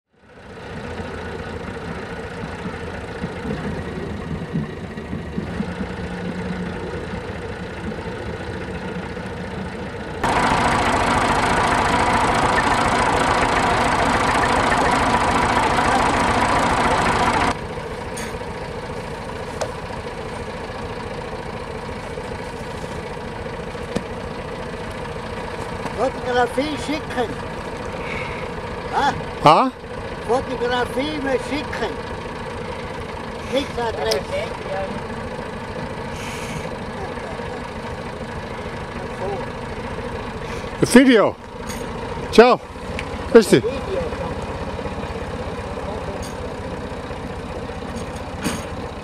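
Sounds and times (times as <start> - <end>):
tractor engine idling: 0.1 - 49.0.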